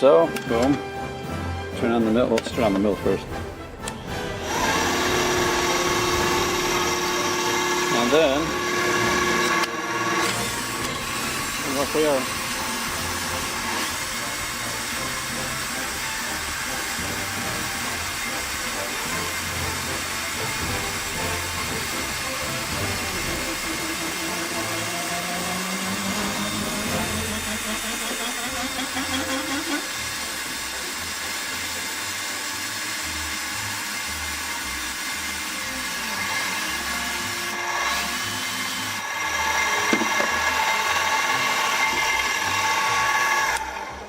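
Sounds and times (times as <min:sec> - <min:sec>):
milling machine cutting hiss: 0:02.4 - 0:44.0
low motor hum: 0:02.7 - 0:44.0.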